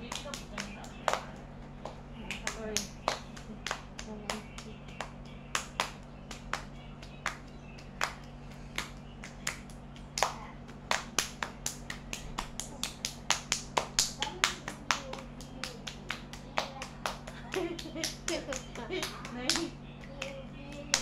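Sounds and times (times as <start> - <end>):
hand-clapping game claps and slaps: 0.0 - 21.0.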